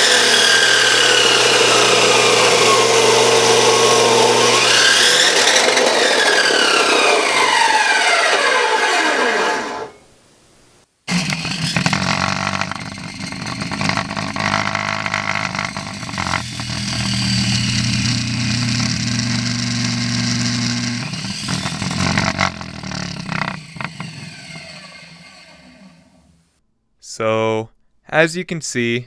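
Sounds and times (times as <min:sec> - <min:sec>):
chop saw motor whine: 0:00.0 - 0:10.0, 0:11.1 - 0:26.4.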